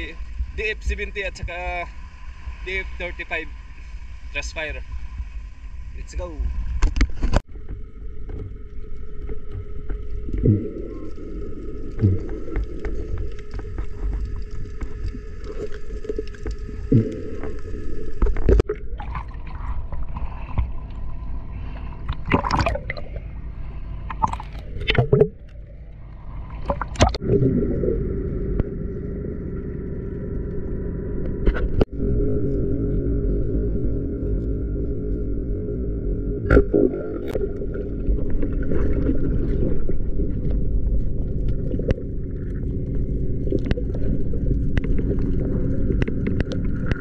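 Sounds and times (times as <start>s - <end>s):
faint steady hum: 0.0s - 47.0s
underwater rush of water: 0.0s - 47.0s.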